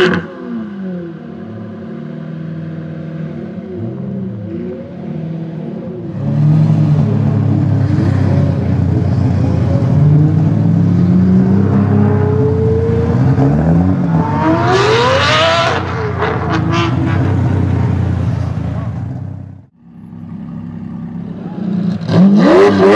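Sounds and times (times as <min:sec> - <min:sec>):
sports car engine revving: 0:00.0 - 0:22.9.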